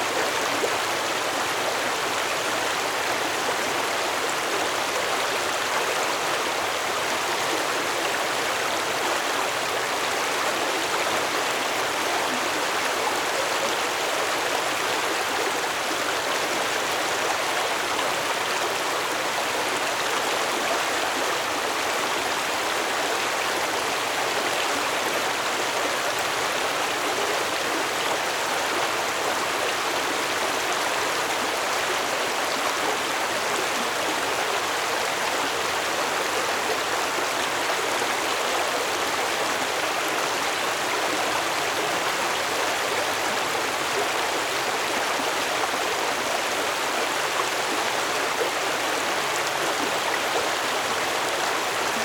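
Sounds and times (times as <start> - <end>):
stream water flowing over rocks: 0.0 - 52.0.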